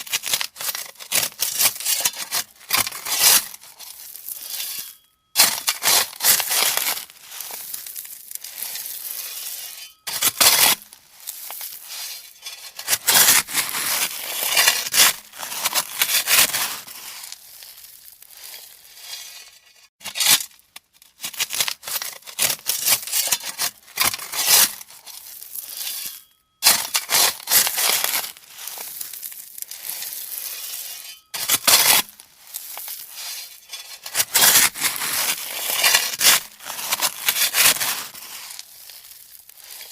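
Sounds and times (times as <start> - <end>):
shovel scraping gravel: 0.0 - 39.9.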